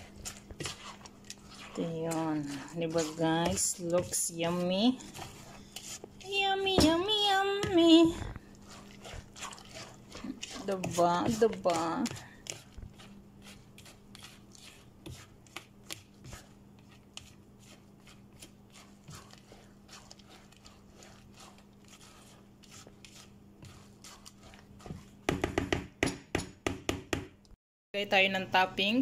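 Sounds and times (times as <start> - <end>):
steady low hum: 0.0 - 25.3
spatula stirring thick batter: 0.0 - 26.2.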